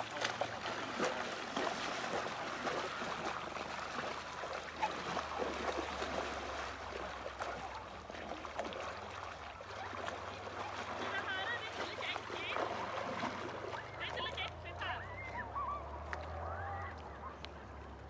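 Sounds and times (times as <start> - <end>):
horse splashing through water: 0.0 - 18.0.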